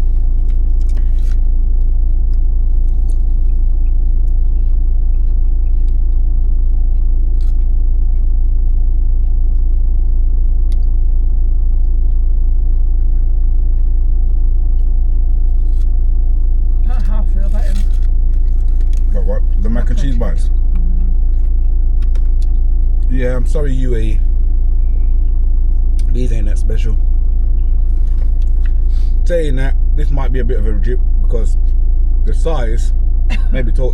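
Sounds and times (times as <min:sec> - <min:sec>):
vehicle engine rumbling: 0:00.0 - 0:33.9.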